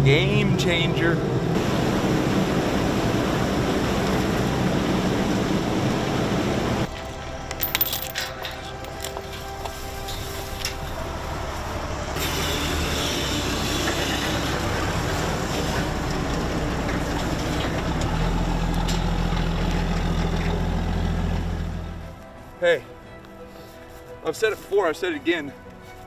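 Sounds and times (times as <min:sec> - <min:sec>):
swamp buggy engine humming: 0:00.0 - 0:22.2.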